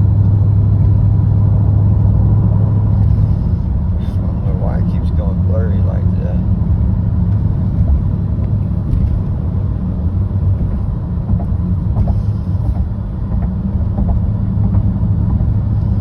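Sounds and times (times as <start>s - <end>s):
low exhaust drone inside car: 0.0s - 16.0s.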